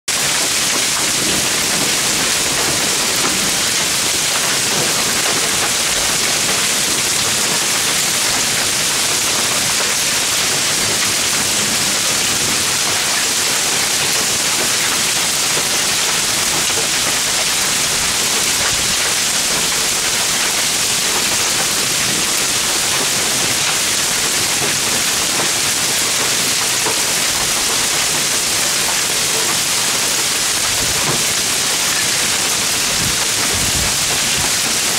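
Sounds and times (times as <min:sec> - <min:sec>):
hail and rain pelting down: 0:00.1 - 0:34.9.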